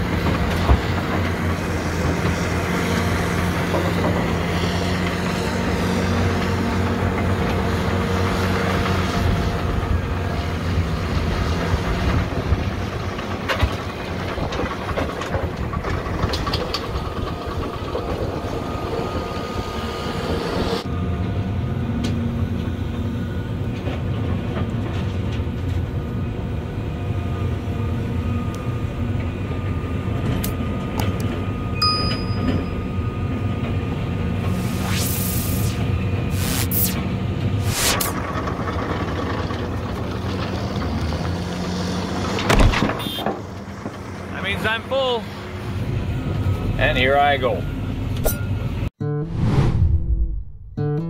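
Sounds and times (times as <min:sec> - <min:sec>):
heavy diesel equipment running: 0:00.0 - 0:48.9
bulldozer running: 0:00.0 - 0:49.2.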